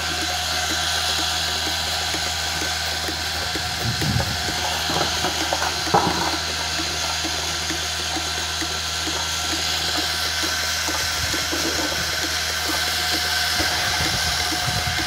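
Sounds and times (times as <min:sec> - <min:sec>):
pulsator pulsing: 0:00.0 - 0:15.0
vacuum pump hum: 0:00.0 - 0:15.0.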